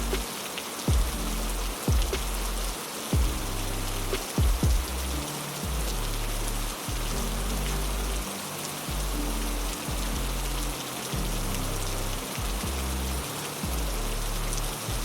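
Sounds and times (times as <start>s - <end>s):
heavy rain hissing: 0.0s - 15.0s
low droning notes: 0.0s - 15.0s
rain drops ticking: 0.0s - 15.0s.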